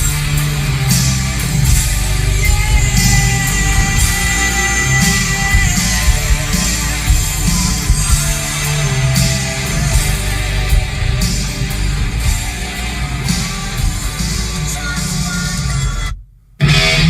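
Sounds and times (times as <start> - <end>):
loud music with guitar and heavy bass: 0.0 - 17.0.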